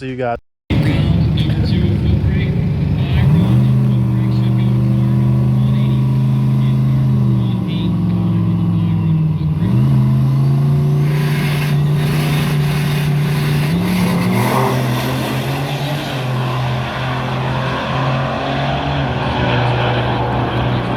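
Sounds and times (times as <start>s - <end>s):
vehicle engine running: 0.7s - 20.9s.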